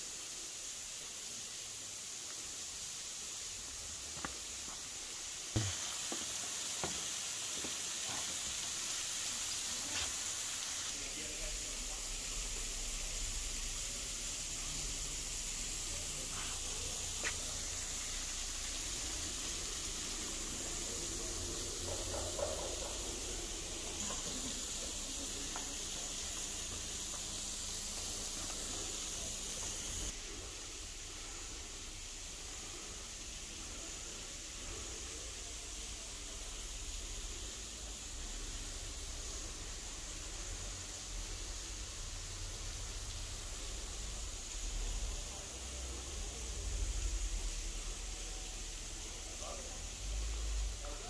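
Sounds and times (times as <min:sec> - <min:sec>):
waterfall hissing: 0:00.0 - 0:51.0.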